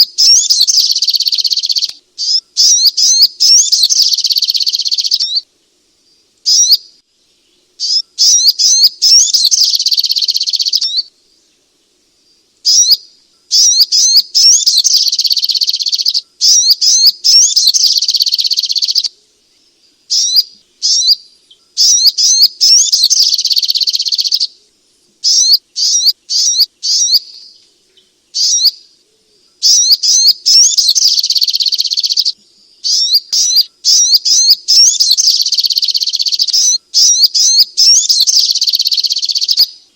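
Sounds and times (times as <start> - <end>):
bird twittering: 0.0 - 5.4, 6.4 - 7.0, 7.8 - 11.1, 12.6 - 19.2, 20.1 - 24.6, 25.2 - 39.8.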